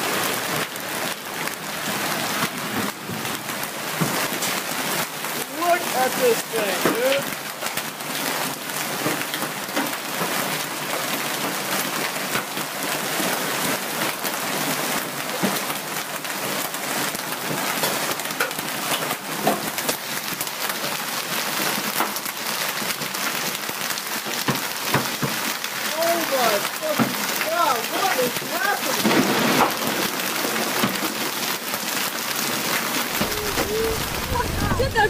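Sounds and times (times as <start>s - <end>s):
heavy rain hiss: 0.0s - 10.8s, 11.4s - 35.0s
hailstones ticking: 0.1s - 35.0s.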